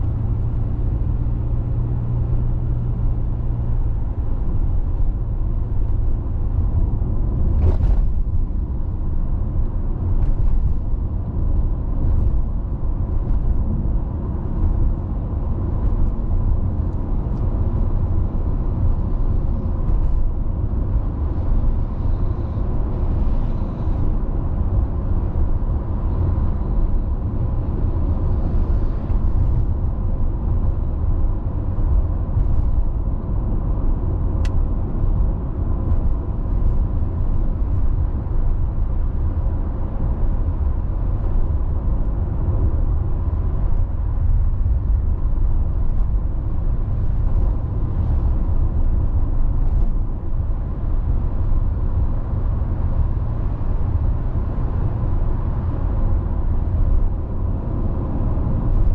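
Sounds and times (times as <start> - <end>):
car engine: 0.0 - 58.9
car tyres rumbling on road: 0.0 - 58.9.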